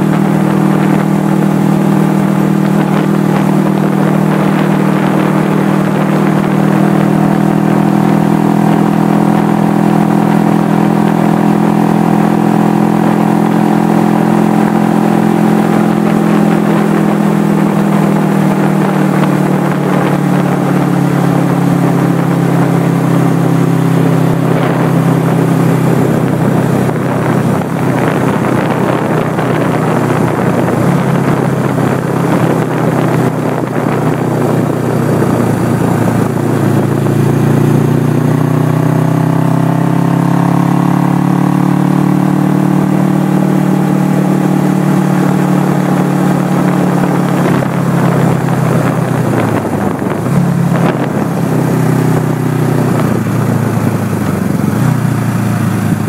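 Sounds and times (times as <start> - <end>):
motorcycle engine running: 0.0 - 56.0
wind rushing: 0.0 - 56.0.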